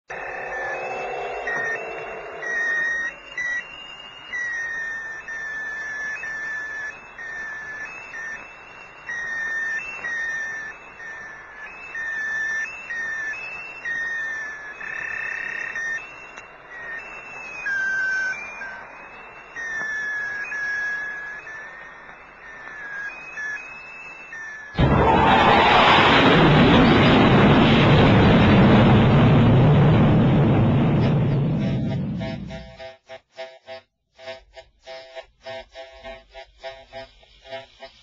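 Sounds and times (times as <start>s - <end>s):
whistle-like sliding melody: 0.1s - 26.1s, 31.6s - 38.0s.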